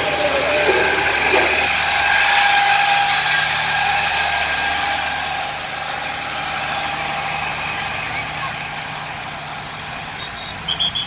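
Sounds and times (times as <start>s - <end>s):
engine whine: 0.0s - 11.0s
large vehicle engine droning: 0.0s - 11.0s.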